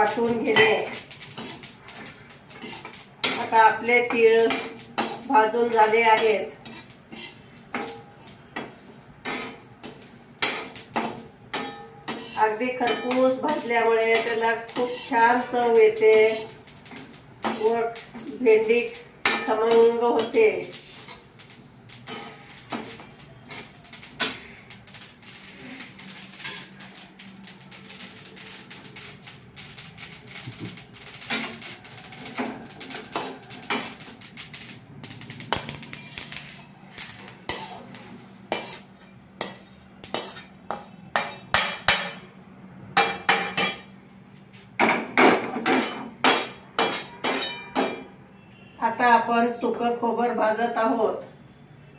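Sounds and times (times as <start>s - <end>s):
metal spoon scraping a pan: 0.0s - 42.2s, 45.6s - 48.7s.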